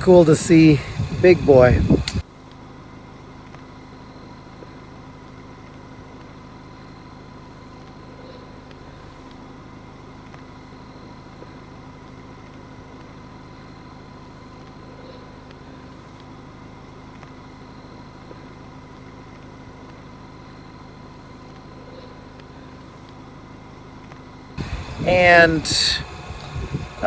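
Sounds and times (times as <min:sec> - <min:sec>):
vehicle engine idling: 0:00.0 - 0:02.2, 0:02.8 - 0:27.0.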